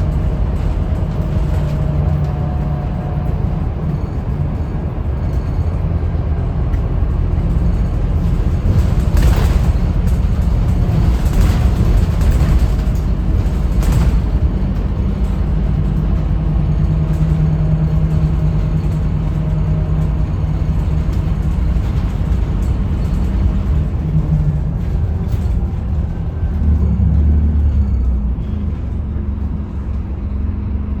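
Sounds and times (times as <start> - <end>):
bus diesel engine running: 0.0 - 31.0
road noise: 0.0 - 31.0.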